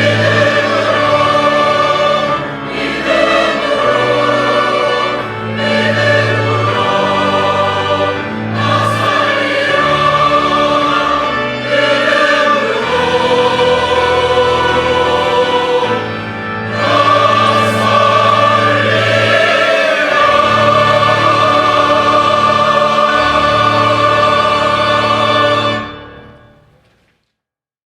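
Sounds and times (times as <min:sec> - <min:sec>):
church choir singing: 0:00.0 - 0:26.9.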